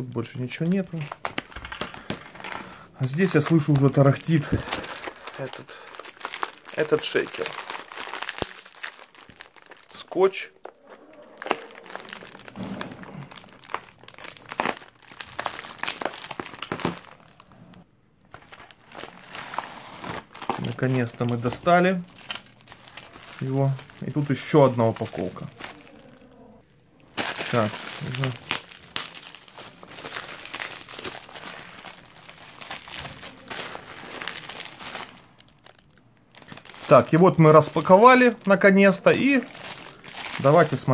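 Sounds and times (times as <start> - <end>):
plastic packaging crinkling: 0.0 - 40.9.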